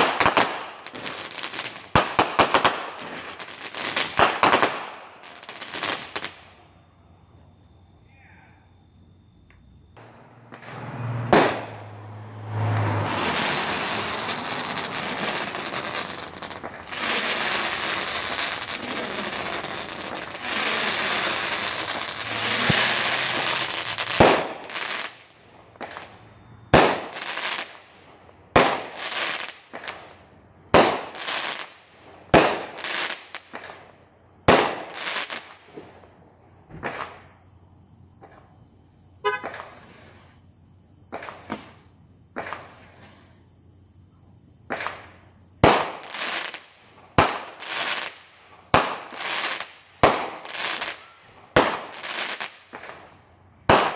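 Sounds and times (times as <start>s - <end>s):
fireworks sharp bangs: 0.0s - 6.6s, 10.0s - 37.4s, 39.2s - 40.3s, 41.1s - 43.2s, 44.7s - 53.9s
fireworks crackling: 0.0s - 6.7s, 10.0s - 36.1s, 39.2s - 40.4s, 41.1s - 43.3s, 44.7s - 53.9s.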